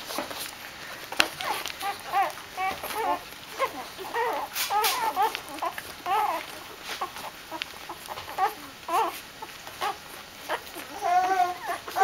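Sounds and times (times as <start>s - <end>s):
puppies whining and squeaking: 0.0s - 12.0s.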